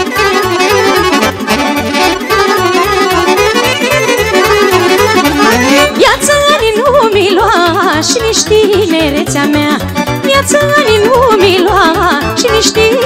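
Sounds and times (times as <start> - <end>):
bass beat: 0.0 - 12.9
accordion melody: 0.0 - 13.0
dance band music: 0.0 - 13.0.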